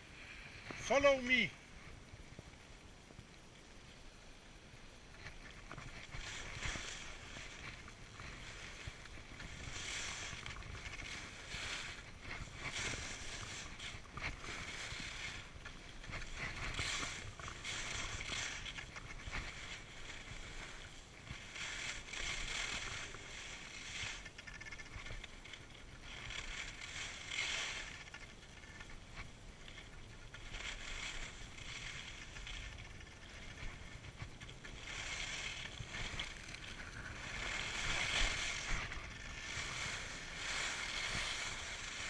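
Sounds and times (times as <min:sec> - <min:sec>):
skis scraping over snow: 0:04.7 - 0:42.0.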